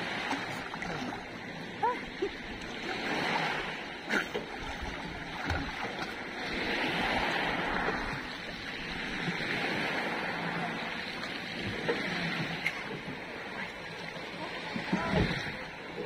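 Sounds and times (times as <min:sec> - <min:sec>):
water splashing around swimmer: 0:00.0 - 0:16.0.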